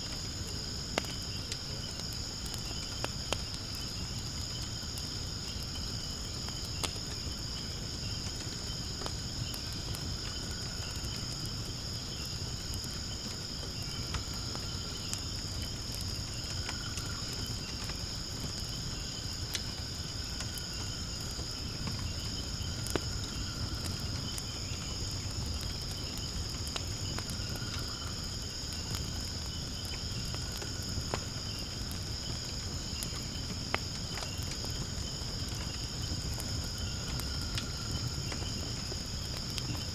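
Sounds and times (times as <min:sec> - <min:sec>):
firewood crackling: 0:00.0 - 0:39.9
insects chorus: 0:00.0 - 0:39.9.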